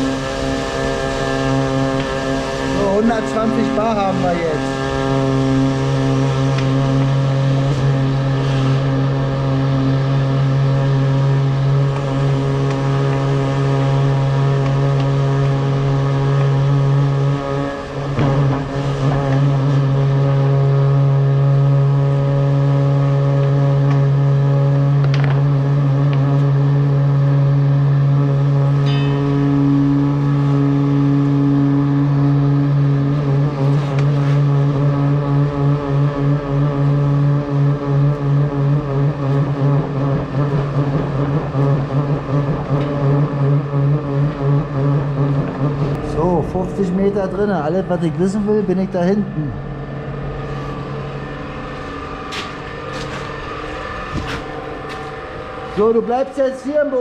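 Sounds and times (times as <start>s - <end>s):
high-pressure pump running: 0.0s - 57.0s.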